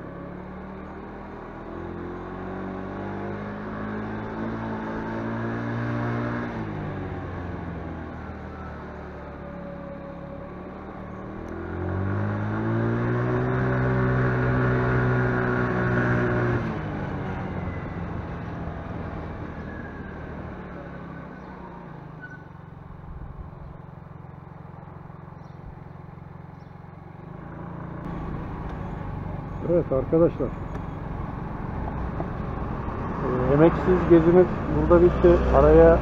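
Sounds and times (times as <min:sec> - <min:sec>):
motorcycle engine revving: 0:00.0 - 0:36.0
road noise: 0:00.0 - 0:36.0.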